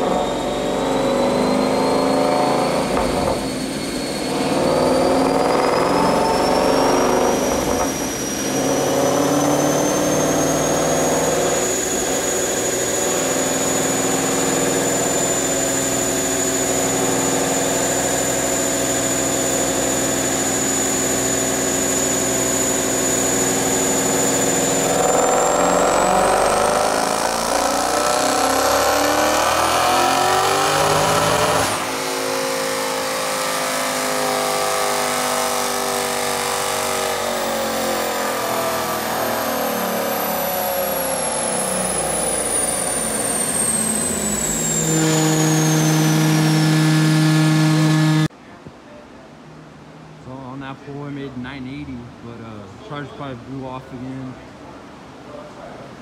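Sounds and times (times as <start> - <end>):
turbo whine: 0.0 - 48.3
car engine on dyno: 0.0 - 48.4.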